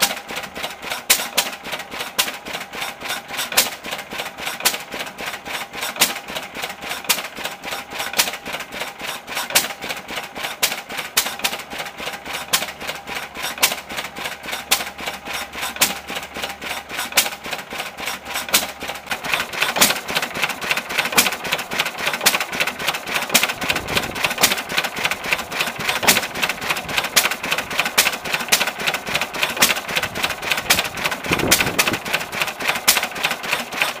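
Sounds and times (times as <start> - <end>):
stationary engine clattering: 0.0 - 34.0.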